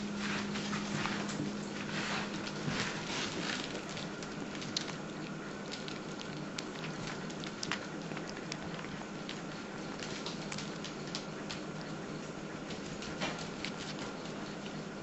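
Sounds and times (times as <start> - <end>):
animal chewing clicks and smacks: 1.0 - 15.0.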